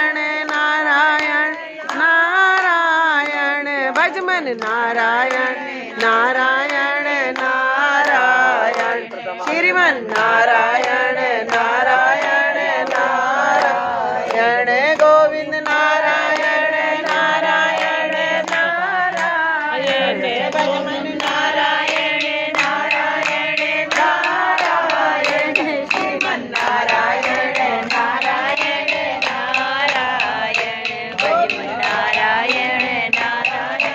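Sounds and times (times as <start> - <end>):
rhythmic hand clapping: 0.0 - 33.9
voices singing a devotional chant: 0.0 - 33.9.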